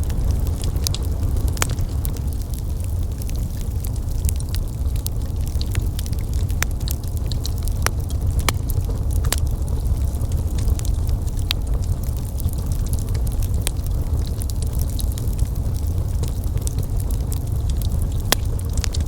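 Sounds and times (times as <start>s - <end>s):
fire crackling and popping: 0.0s - 19.0s
low rumble: 0.0s - 19.0s.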